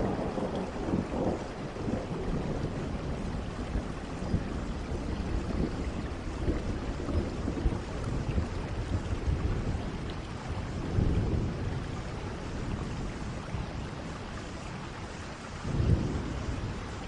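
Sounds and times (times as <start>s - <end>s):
low rolls of thunder: 0.0s - 17.0s
steady rain falling: 0.0s - 17.0s.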